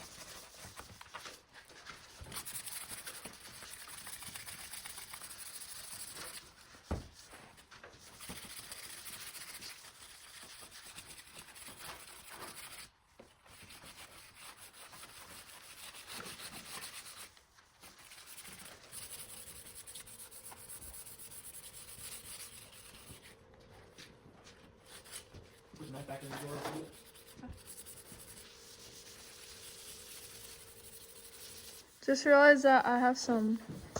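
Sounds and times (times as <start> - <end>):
sandpaper rubbing: 0.0 - 7.3, 8.0 - 23.4, 24.8 - 32.6.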